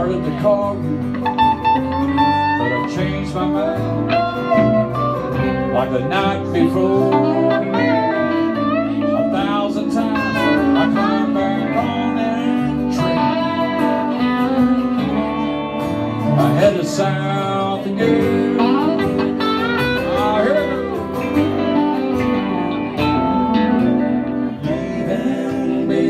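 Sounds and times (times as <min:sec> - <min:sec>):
lead guitar bending notes: 0:00.0 - 0:26.0
live blues band with guitars: 0:00.0 - 0:26.0.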